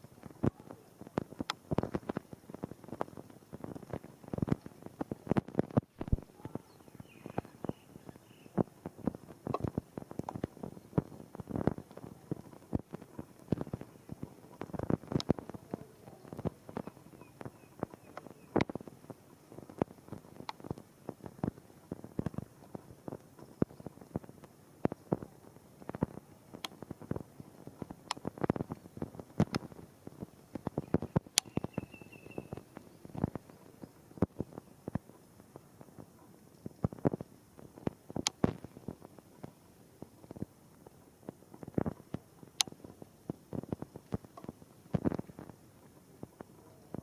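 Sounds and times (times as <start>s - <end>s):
rain hiss: 0.0s - 47.0s
raindrops tapping on hard surfaces: 0.0s - 47.0s.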